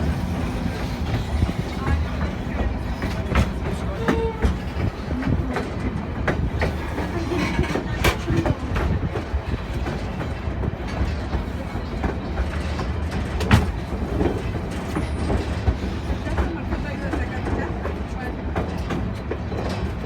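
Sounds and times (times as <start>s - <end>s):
train car rumbling on track: 0.0s - 20.0s
train wheel clicks and clacks: 0.0s - 20.0s.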